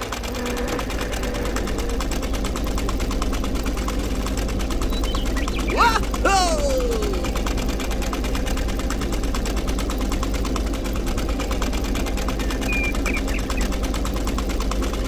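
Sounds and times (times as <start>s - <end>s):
small electric motor propeller rattle: 0.0s - 15.0s.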